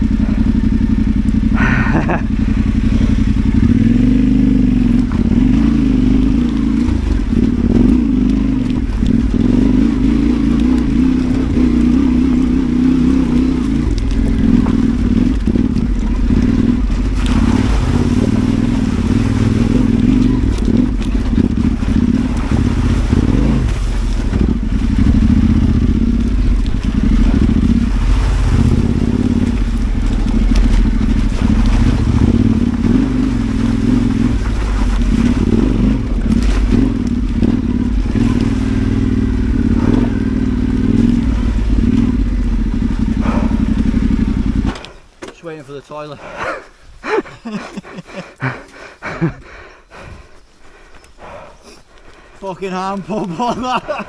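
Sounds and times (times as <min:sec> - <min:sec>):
motorcycle engine at low revs: 0:00.0 - 0:45.4, 0:53.1 - 0:54.0.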